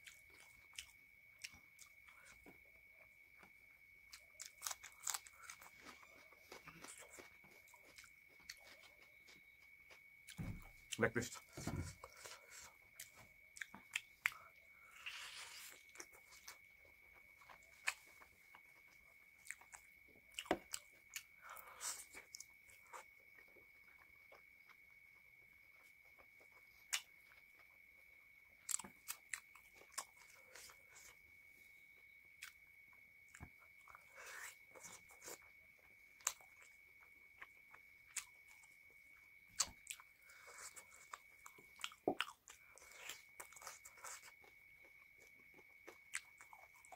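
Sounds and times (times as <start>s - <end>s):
person chewing wetly: 0.0s - 9.1s, 10.3s - 24.8s, 25.7s - 27.7s, 28.6s - 31.2s, 33.3s - 38.9s, 39.5s - 46.9s
faint steady high tone: 0.0s - 46.9s.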